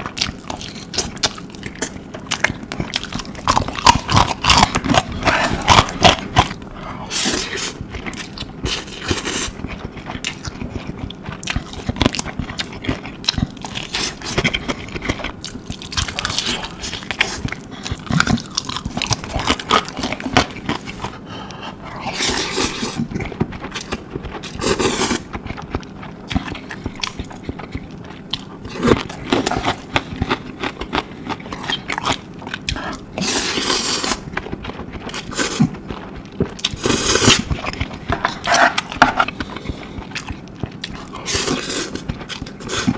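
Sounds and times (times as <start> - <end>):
slurping and chewing noodles: 0.0 - 42.9.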